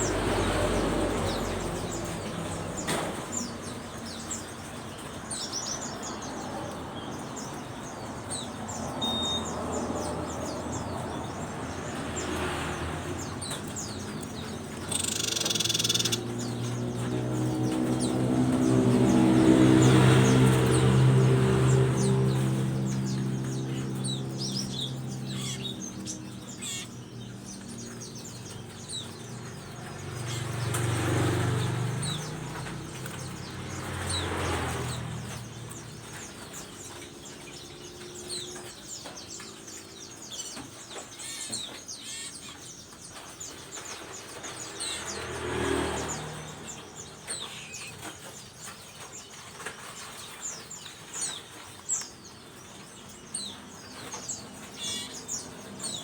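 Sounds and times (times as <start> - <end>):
birds chirping and whistling: 0.0 - 12.3, 13.0 - 45.3, 46.0 - 56.0
vehicles passing: 0.0 - 56.0.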